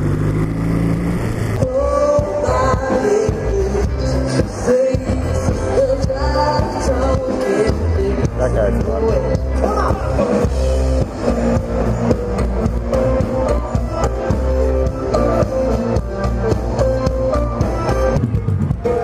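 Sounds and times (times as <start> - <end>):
live rock band playing: 0.2 - 19.0.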